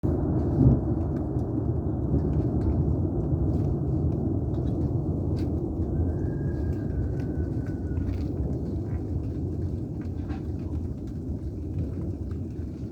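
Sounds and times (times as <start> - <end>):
low thunder rumble: 0.0 - 12.9.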